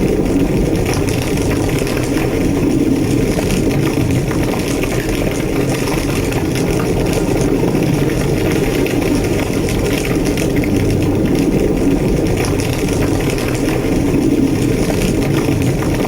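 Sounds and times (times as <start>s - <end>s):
large fire roaring and crackling: 0.0s - 16.0s.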